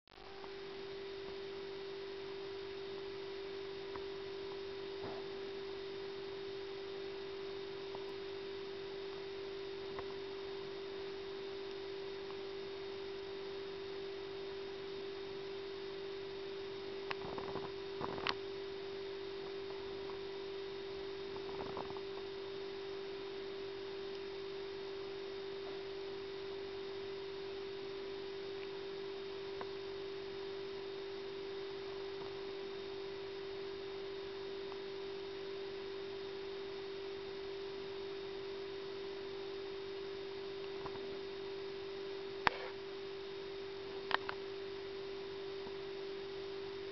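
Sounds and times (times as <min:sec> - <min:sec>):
steady electronic hum: 0:00.1 - 0:46.9.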